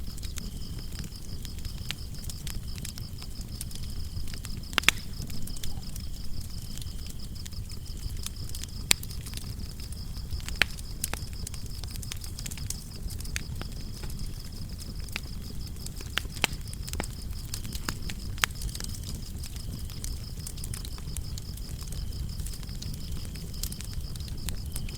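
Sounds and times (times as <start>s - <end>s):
crickets chirping: 0.0s - 24.9s
wood fire crackling: 0.0s - 24.9s.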